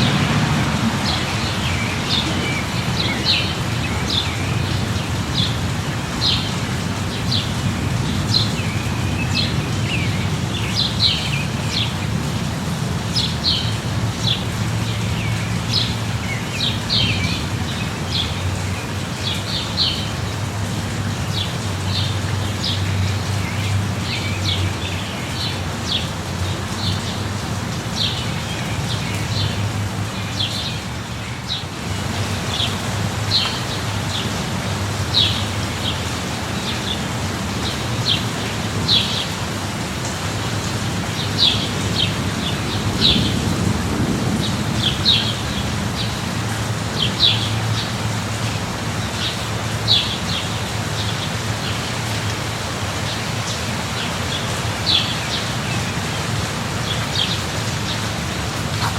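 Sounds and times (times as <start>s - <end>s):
light rain falling: 0.0s - 58.9s.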